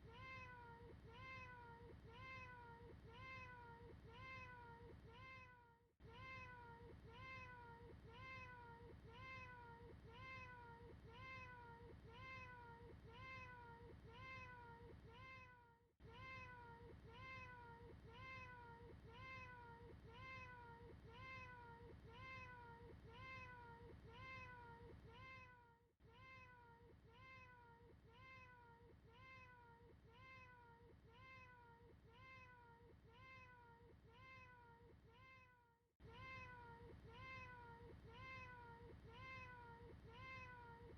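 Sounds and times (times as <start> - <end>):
looped cat meow: 0.0 - 40.8.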